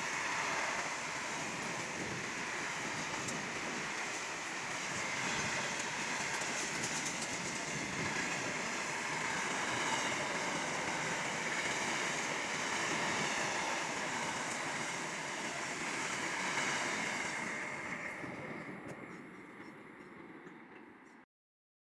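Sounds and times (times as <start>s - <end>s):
train wheels on rails: 0.0s - 21.2s.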